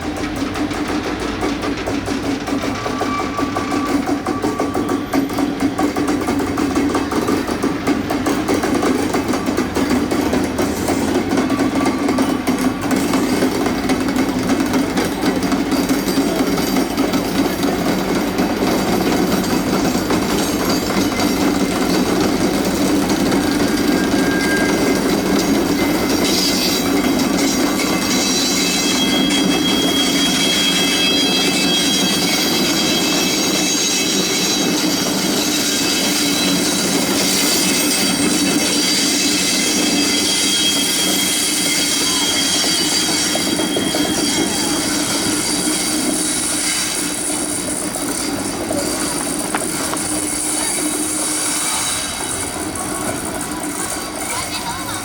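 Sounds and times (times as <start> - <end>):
locomotive machinery running: 0.0 - 55.0
train rumbling on track: 0.0 - 55.0.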